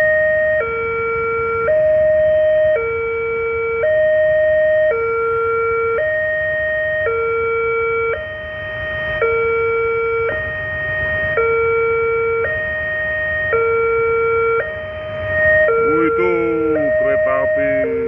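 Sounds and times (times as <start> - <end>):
level crossing two-note alarm: 0.0 - 18.0.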